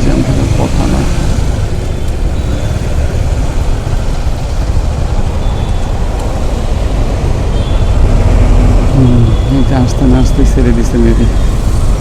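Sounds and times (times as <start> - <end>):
motorcycle engine and road rumble: 0.0 - 12.0
traffic noise: 0.0 - 12.0.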